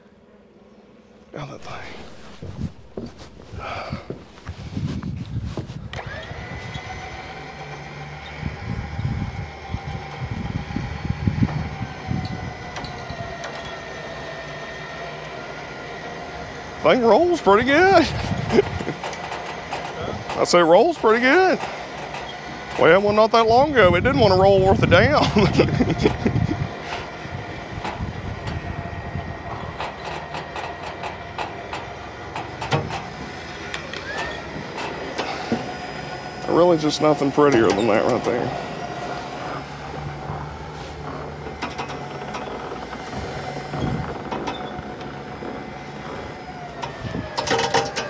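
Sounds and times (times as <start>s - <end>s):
truck rumbling and clunking: 1.3s - 48.0s.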